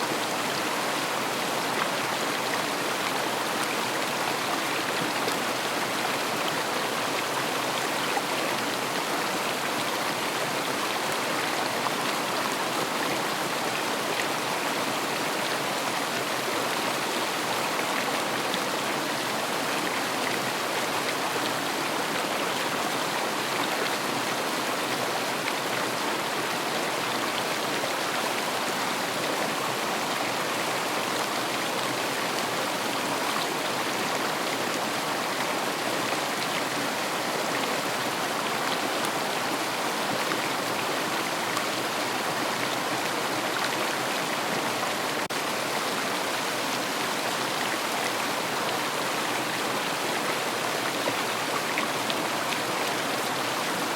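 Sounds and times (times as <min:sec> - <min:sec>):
river water rushing over stones: 0:00.0 - 0:53.9.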